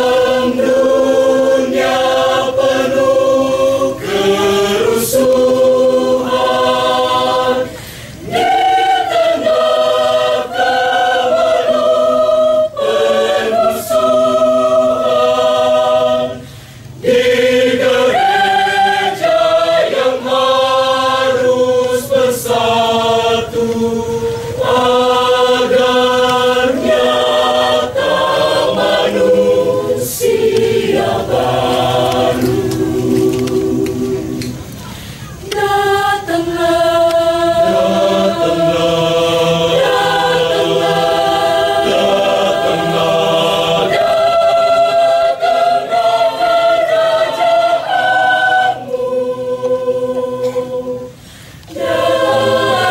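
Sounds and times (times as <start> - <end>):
choir singing held chords: 0.0 - 52.9.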